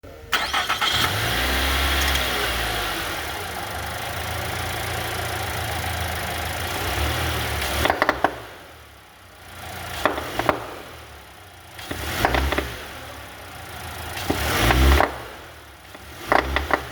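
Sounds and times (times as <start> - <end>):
car engine running: 0.1 - 16.9.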